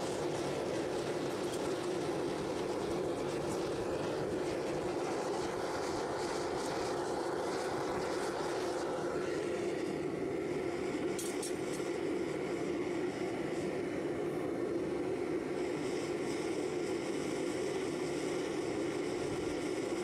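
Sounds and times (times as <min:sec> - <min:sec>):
furnace fire rushing: 0:00.0 - 0:20.0.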